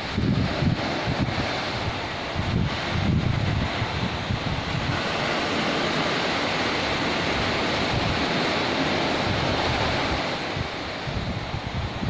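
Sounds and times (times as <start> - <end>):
sea waves breaking on a beach: 0.0 - 12.0.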